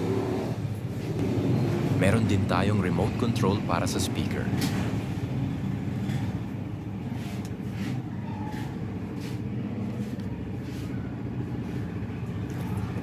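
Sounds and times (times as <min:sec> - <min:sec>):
low motor-like hum: 0:00.0 - 0:13.0.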